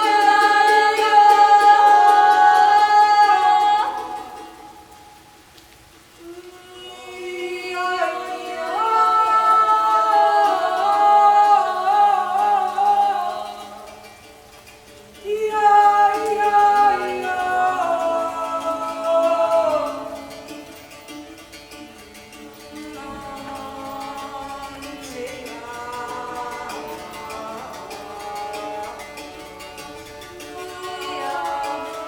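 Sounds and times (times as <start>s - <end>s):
voices singing a cappella: 0.0s - 5.3s, 6.1s - 14.4s, 15.2s - 20.8s, 22.3s - 32.0s.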